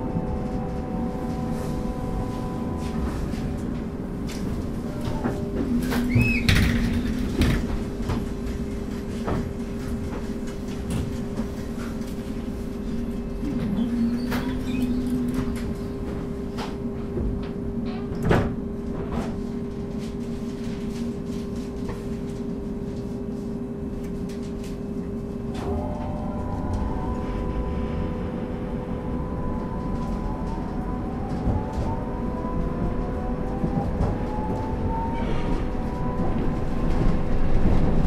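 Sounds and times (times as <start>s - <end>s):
constant equipment hum: 0.0s - 38.0s
light-rail car running noise: 0.0s - 38.0s.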